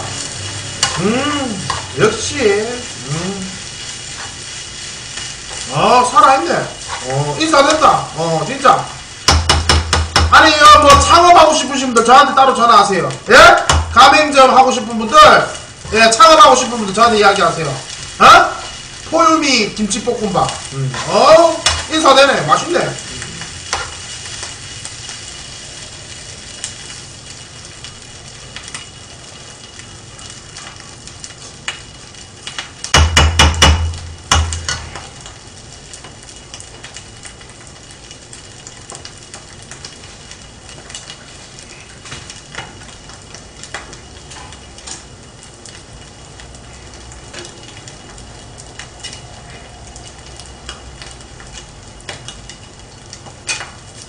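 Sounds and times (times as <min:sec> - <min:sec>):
fried rice sizzling in pan: 0:00.0 - 0:54.0.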